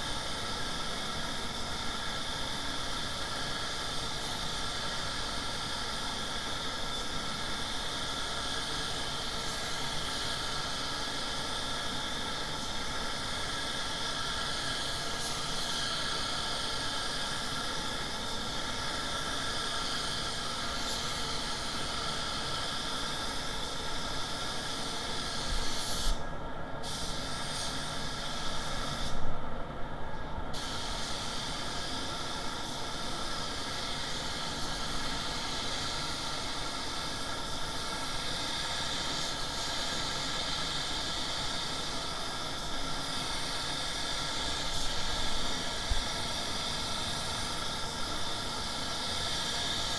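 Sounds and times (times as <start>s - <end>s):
paint spray gun hissing: 0.0s - 26.2s, 26.8s - 29.2s, 30.6s - 49.9s.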